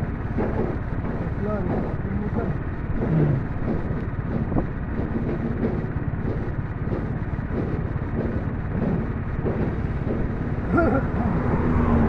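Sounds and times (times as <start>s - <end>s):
road noise on dirt road: 0.0s - 12.0s
vehicle engine running: 0.0s - 12.0s.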